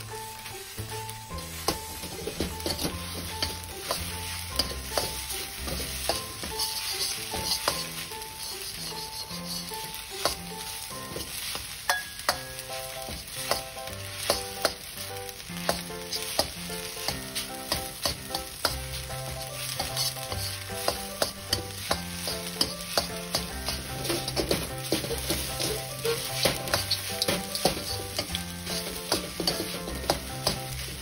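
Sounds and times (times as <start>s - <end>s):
background music: 0.0s - 31.0s
rice and egg sizzling in wok: 0.0s - 31.0s
metal ladle scraping and knocking wok: 1.3s - 14.8s, 15.6s - 31.0s.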